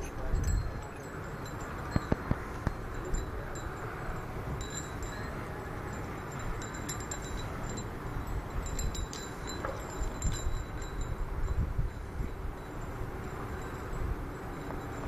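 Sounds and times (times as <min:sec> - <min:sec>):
faint high tinkling: 0:00.0 - 0:15.0.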